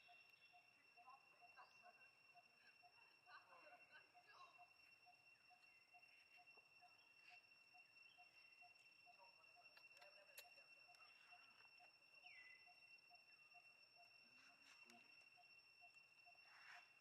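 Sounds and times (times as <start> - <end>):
soft regular pulse: 0.0 - 17.0
steady high-pitched tone: 0.0 - 17.0.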